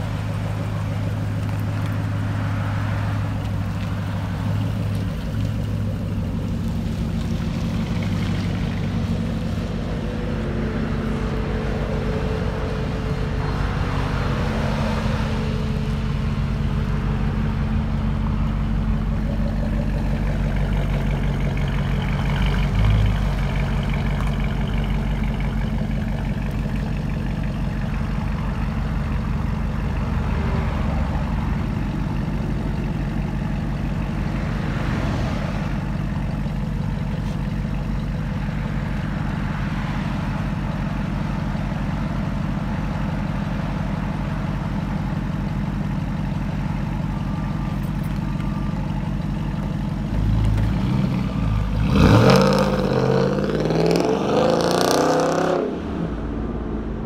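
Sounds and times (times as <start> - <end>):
engine idling with loud exhaust: 0.0 - 55.8.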